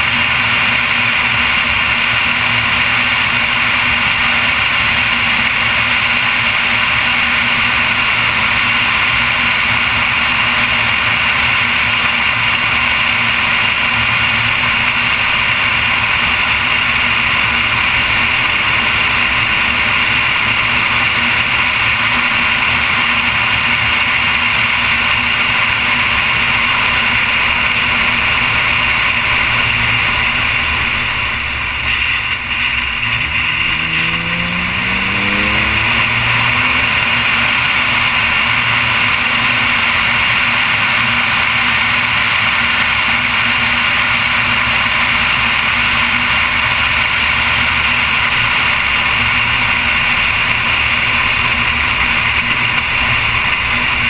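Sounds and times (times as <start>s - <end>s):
car engine cruising: 0.0s - 54.0s
road and wind noise: 0.0s - 54.0s.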